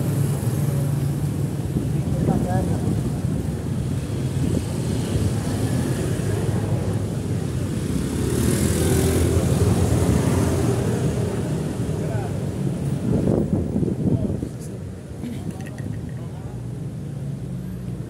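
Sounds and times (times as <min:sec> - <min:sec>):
motorcycle and scooter traffic: 0:00.0 - 0:18.0.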